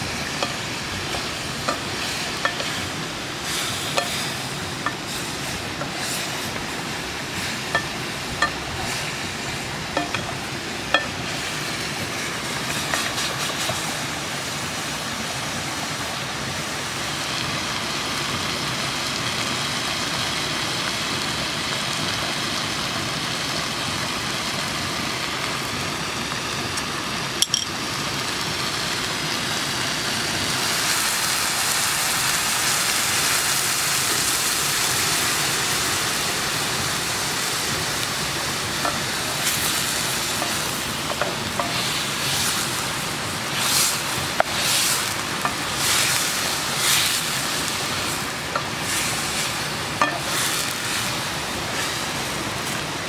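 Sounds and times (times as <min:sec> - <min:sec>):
meat sizzling in a pot: 0:00.0 - 0:53.0.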